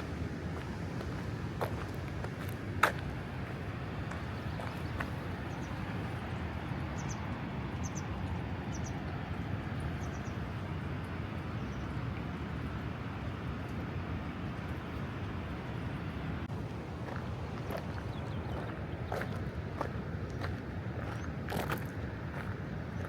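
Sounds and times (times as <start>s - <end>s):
rushing mountain water: 0.0s - 23.0s.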